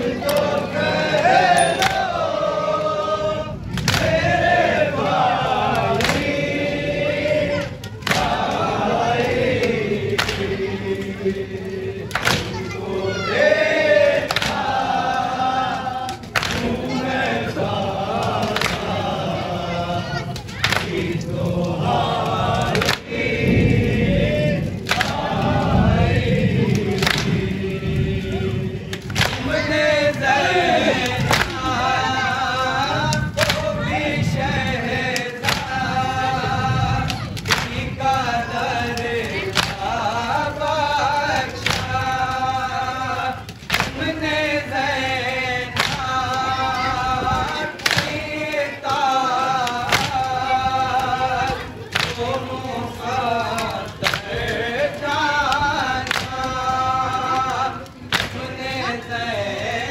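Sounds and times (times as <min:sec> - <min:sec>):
men chanting a lament: 0:00.0 - 0:59.9.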